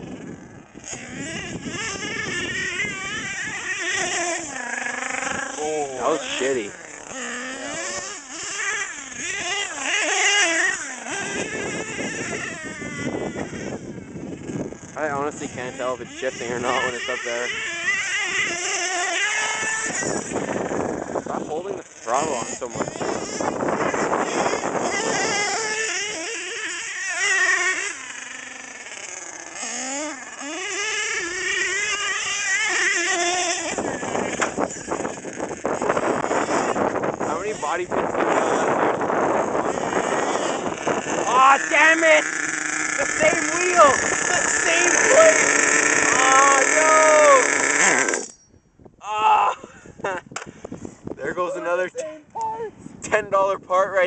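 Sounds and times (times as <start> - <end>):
nitro engine revving: 0.0 - 48.4.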